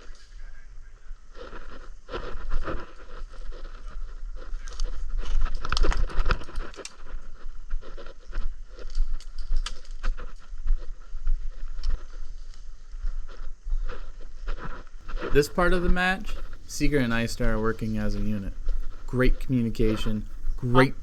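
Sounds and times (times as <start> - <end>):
rustling and crunching in brush: 0.0 - 21.0.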